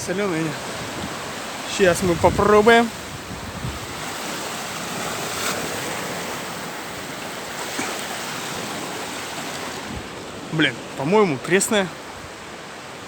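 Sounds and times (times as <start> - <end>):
small waves washing on shore: 0.0 - 13.0.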